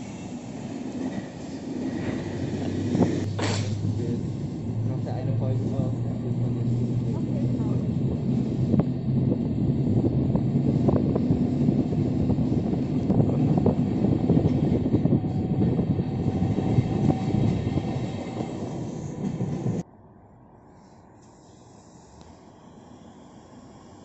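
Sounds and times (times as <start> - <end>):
train wheels rumbling on rails: 0.0 - 19.8.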